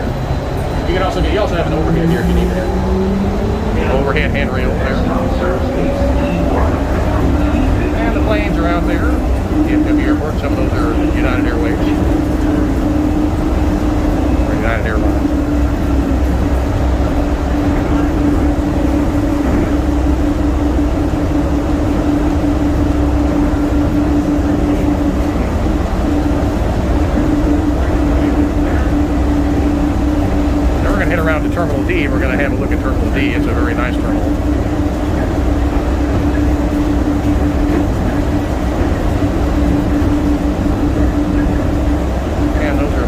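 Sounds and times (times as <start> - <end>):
train hum: 0.0 - 43.0
train low rumble: 0.0 - 43.0.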